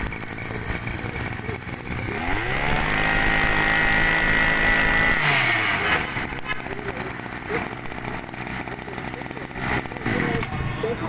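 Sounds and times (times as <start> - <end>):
brush cutter engine revving: 0.0 - 11.0.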